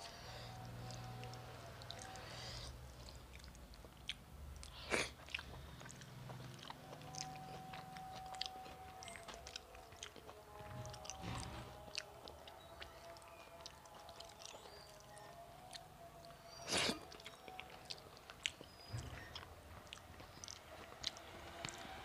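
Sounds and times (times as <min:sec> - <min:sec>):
person chewing: 0:00.0 - 0:22.0.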